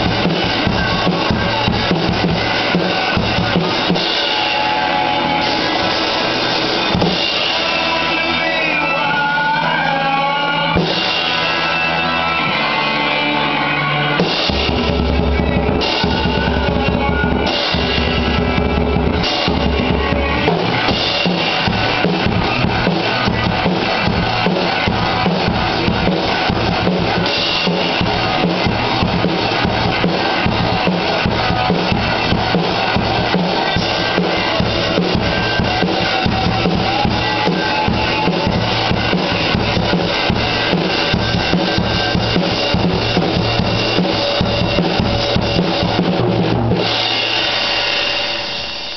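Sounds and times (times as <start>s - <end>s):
drum kit playing: 0.0s - 48.9s
recorded rock music: 0.0s - 48.9s.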